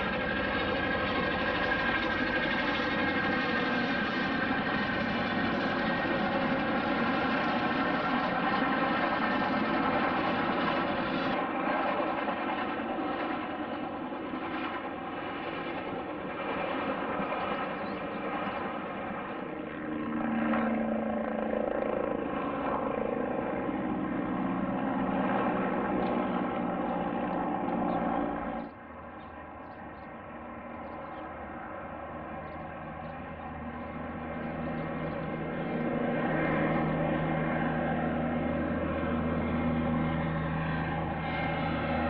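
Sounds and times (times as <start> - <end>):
aircraft engines whining: 0.0 - 42.0.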